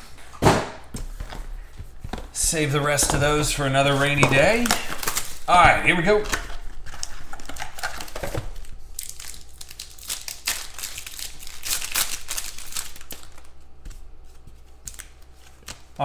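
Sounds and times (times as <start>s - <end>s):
cards shuffling: 0.9s - 16.0s
foil wrappers crinkling: 0.9s - 16.0s.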